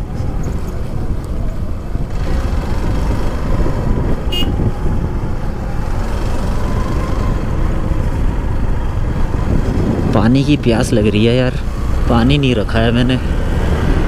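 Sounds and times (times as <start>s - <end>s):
motorcycle engine and road noise: 0.0s - 14.0s
wind rumbling on microphone: 0.0s - 14.0s.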